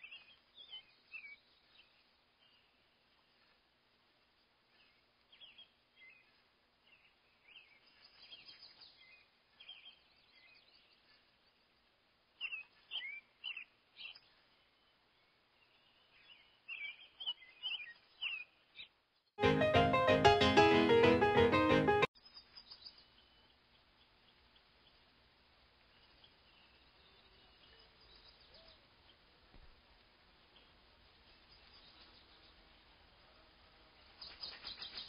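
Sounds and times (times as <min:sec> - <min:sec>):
small birds chirping: 0:00.0 - 0:19.3, 0:22.1 - 0:35.0.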